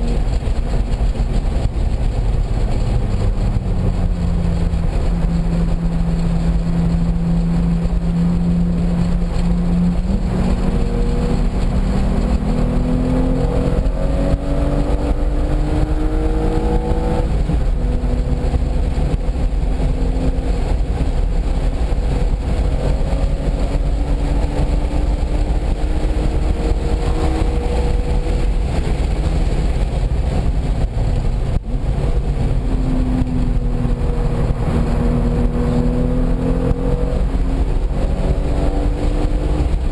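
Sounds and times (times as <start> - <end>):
car engine revving at speed: 0.0 - 39.9
wind and road noise: 0.0 - 39.9.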